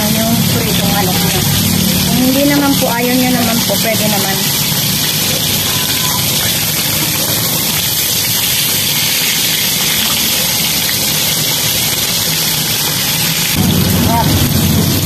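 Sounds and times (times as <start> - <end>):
oil sizzling with frying chicken: 0.0 - 15.0.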